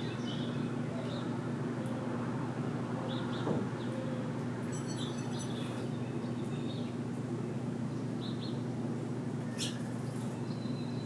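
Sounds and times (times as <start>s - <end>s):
low background hum: 0.0s - 11.0s
songbirds chirping: 0.0s - 11.0s.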